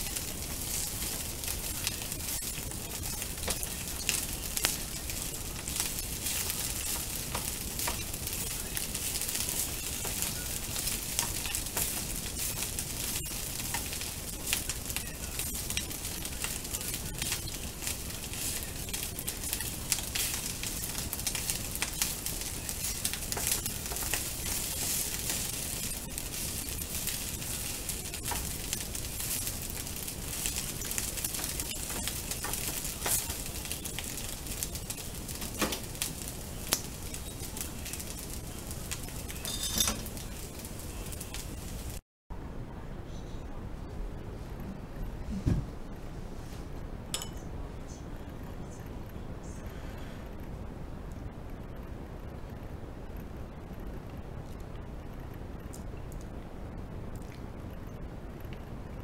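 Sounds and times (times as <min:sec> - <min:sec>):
rice sizzling in a frying pan: 0:00.0 - 0:42.0, 0:47.1 - 0:47.5, 0:53.0 - 0:59.0.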